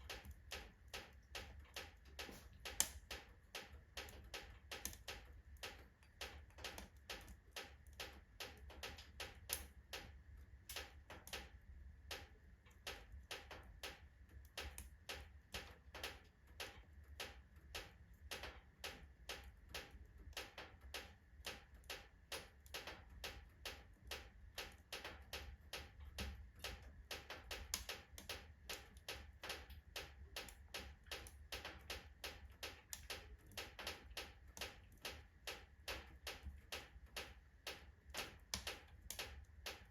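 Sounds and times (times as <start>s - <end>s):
logs crackling in fireplace: 0.0s - 39.9s
low steady fire rumble: 0.0s - 39.9s.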